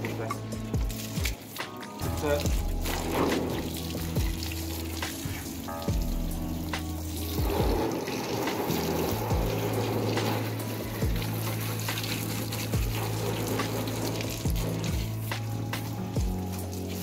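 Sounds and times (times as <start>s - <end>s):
hose spray on car: 0.0s - 17.0s
music with slow low beat: 0.0s - 17.0s.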